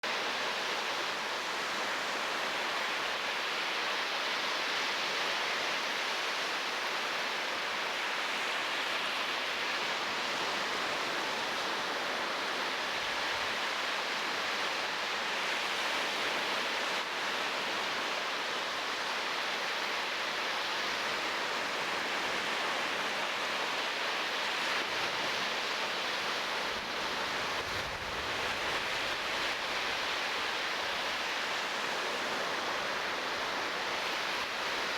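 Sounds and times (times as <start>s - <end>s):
surf washing on shore: 0.1s - 34.9s.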